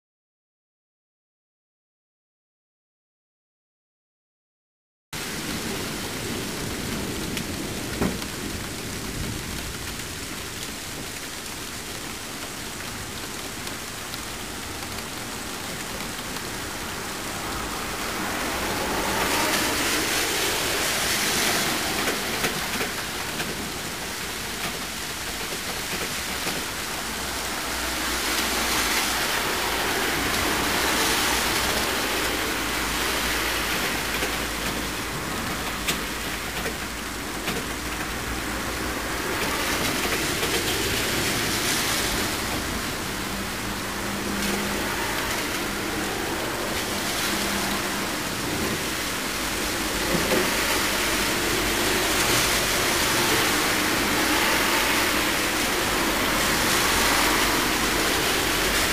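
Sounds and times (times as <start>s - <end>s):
heavy rain hiss: 5.2s - 58.9s.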